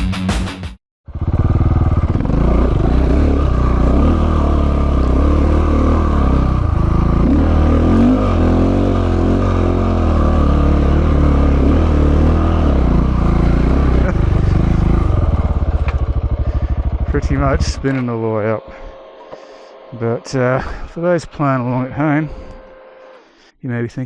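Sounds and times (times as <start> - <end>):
motorcycle engine revving: 1.0 - 23.3.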